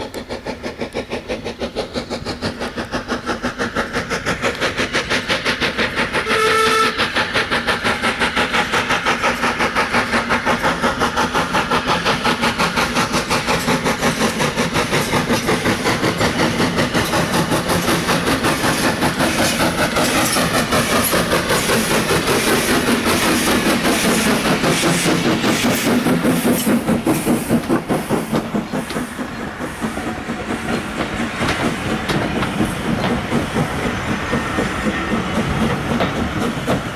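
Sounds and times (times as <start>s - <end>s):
steam locomotive exhaust chuffs: 0.0s - 36.9s
train wheels clicking over rail joints: 0.0s - 36.9s.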